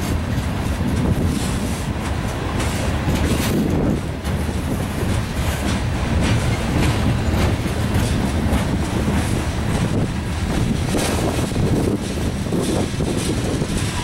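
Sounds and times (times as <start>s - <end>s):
freight cars rumbling on rails: 0.0s - 14.0s
wheels clicking over rail joints: 0.0s - 14.0s.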